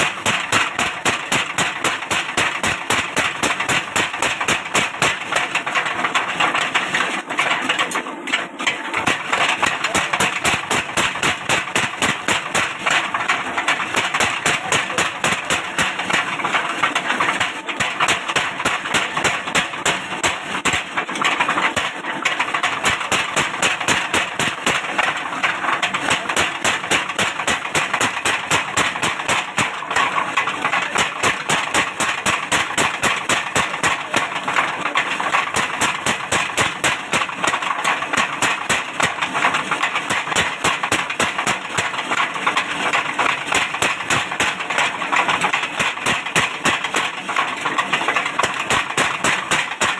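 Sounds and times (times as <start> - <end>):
machine pounding steadily: 0.0 - 49.9.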